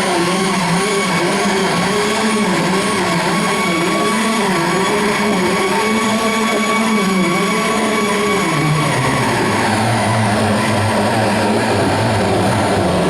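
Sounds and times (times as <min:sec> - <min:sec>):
distorted live band droning: 0:00.0 - 0:13.0.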